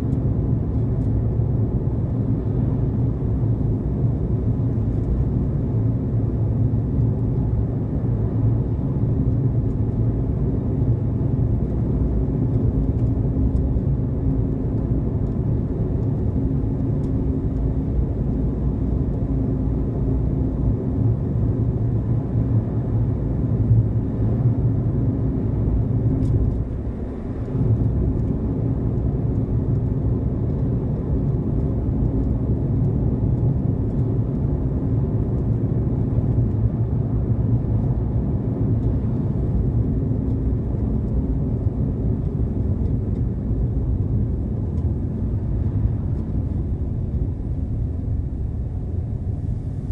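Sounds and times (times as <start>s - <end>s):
car engine and tyre noise: 0.0s - 49.9s.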